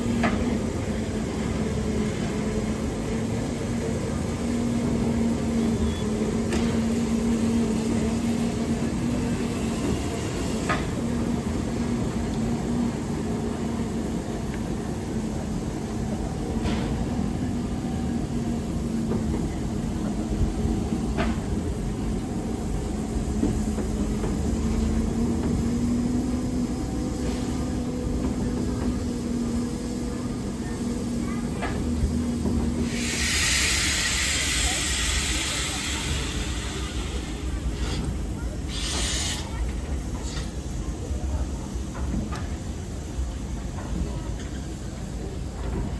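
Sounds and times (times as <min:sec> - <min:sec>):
locomotive humming and rumbling: 0:00.0 - 0:45.9.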